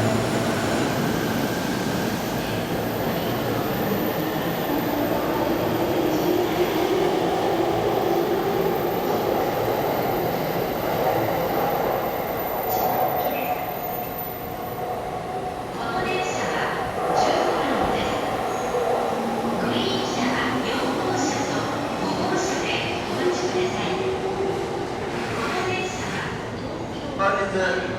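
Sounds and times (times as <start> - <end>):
electric train rumbling: 0.0 - 27.1.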